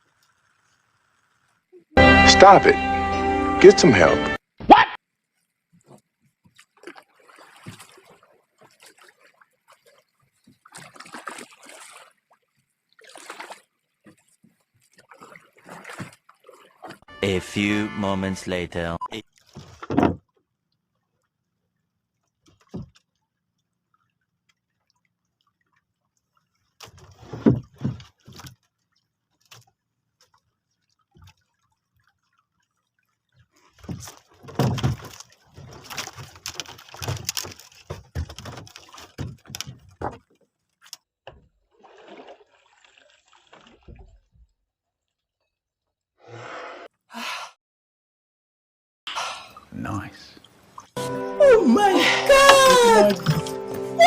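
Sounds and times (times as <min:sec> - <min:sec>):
water splashing and sloshing: 0:00.0 - 0:01.9, 0:04.4 - 0:46.0, 0:49.4 - 0:54.0.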